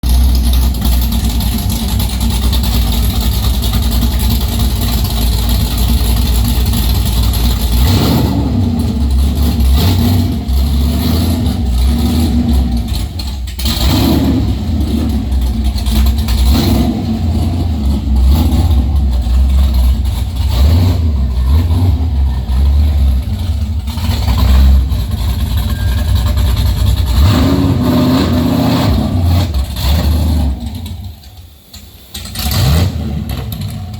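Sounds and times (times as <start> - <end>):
loud car engine revving: 0.0 - 33.9.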